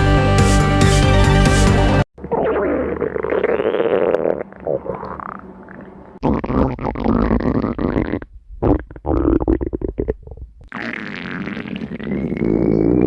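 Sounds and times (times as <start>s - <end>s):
stomach growling and gurgling: 2.2s - 13.0s.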